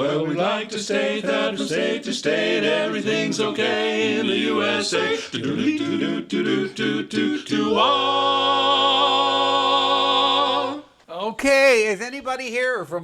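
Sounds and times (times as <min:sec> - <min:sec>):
male quartet singing a cappella: 0:00.0 - 0:11.0.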